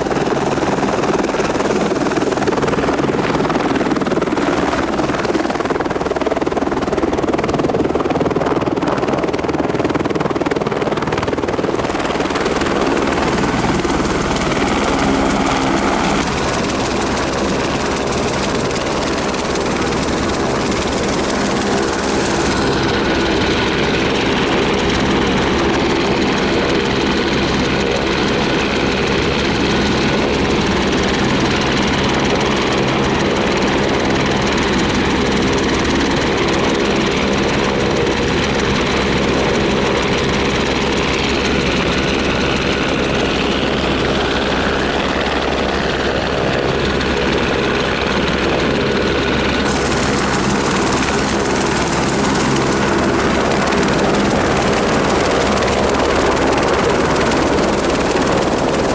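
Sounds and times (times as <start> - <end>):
helicopter drone: 0.0 - 58.9.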